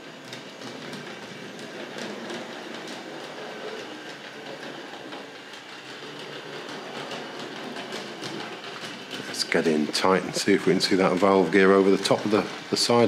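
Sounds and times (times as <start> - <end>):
model train motor rumble: 0.0 - 13.0
wheels clicking over rail joints: 0.0 - 13.0.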